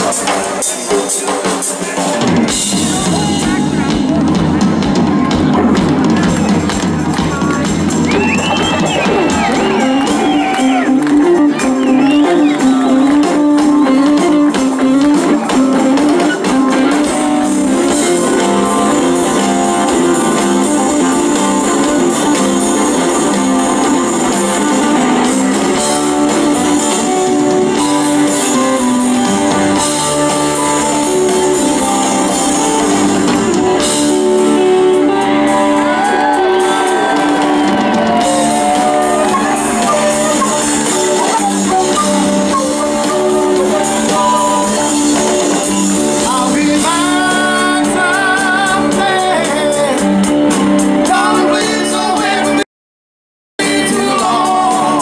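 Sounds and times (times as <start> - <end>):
rock band playing: 0.0 - 52.6, 53.6 - 55.0.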